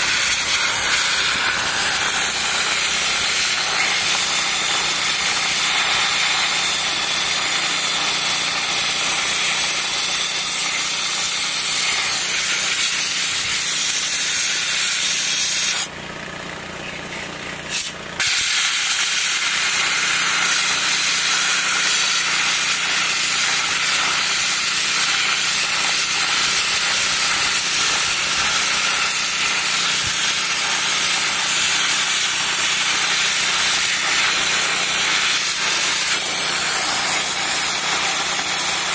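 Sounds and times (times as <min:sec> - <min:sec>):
dry ice blaster hissing: 0:00.0 - 0:15.9, 0:17.6 - 0:38.9.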